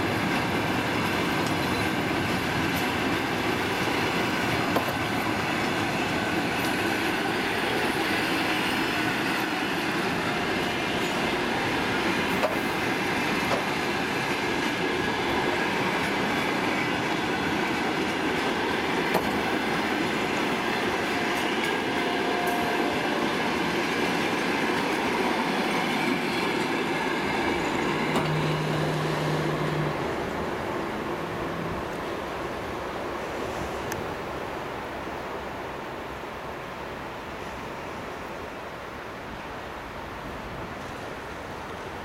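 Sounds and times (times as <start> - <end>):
train wheels rumbling on rails: 0.0 - 35.5.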